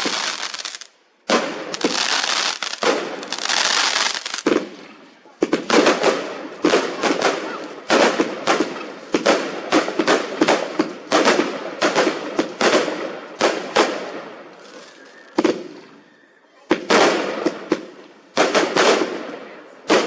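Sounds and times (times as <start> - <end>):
fireworks bangs with crackling: 0.0 - 16.0, 16.7 - 20.0.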